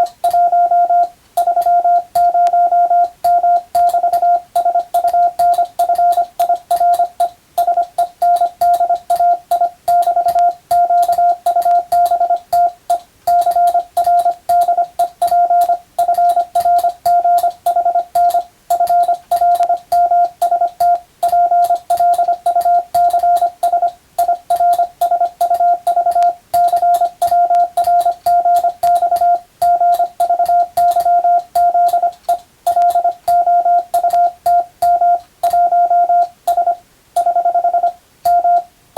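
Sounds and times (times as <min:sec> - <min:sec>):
morse code beeps: 0:00.0 - 0:38.7.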